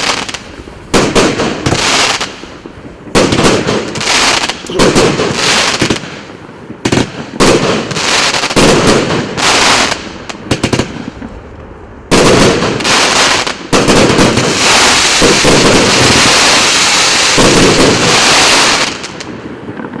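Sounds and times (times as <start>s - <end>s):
firework bangs and crackle: 0.0s - 20.0s.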